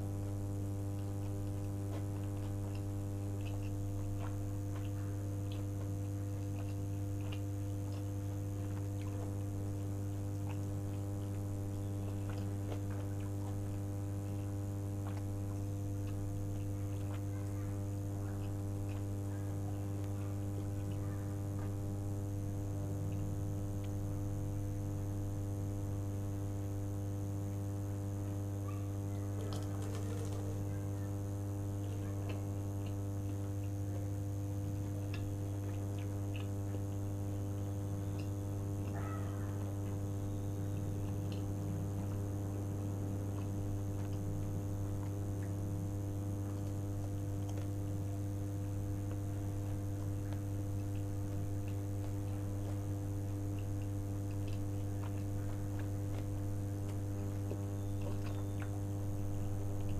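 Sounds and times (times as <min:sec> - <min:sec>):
crunchy chewing: 0:00.0 - 0:59.9
electrical hum: 0:00.0 - 0:59.9.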